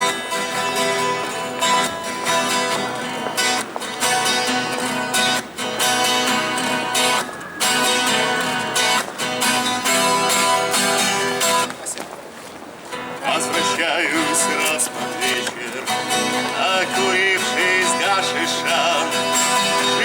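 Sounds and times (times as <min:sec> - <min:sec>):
guitar strumming chords: 0:00.0 - 0:11.9, 0:12.8 - 0:20.0.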